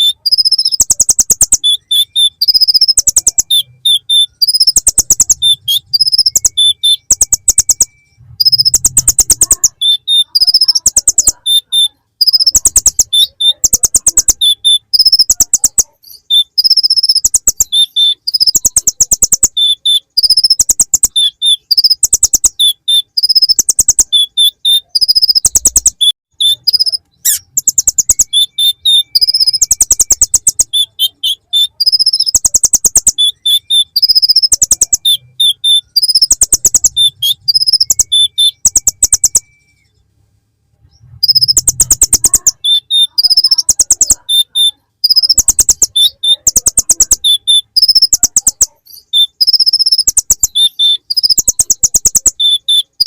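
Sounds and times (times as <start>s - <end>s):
sunbird chattering song: 0.0s - 39.5s, 41.2s - 53.0s.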